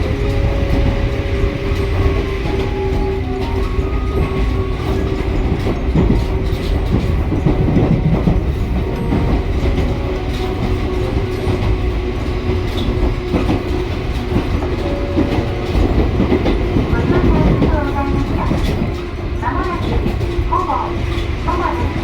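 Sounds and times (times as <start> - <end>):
train low rumble: 0.0 - 22.0
wheels clacking over rail joints: 0.0 - 22.0.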